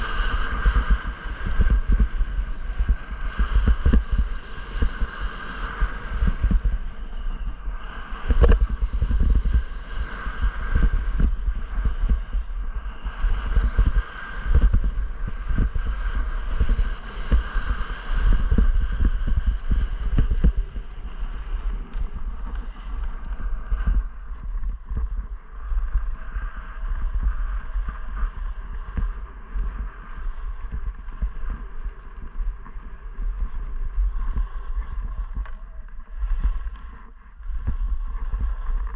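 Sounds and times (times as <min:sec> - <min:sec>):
skis sliding over packed snow: 0:00.0 - 0:38.9
wind buffeting microphone: 0:00.0 - 0:38.9.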